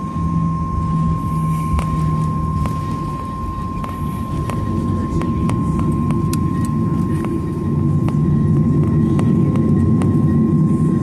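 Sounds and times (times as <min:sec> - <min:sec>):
jet engines rumbling with whine: 0:00.0 - 0:11.0.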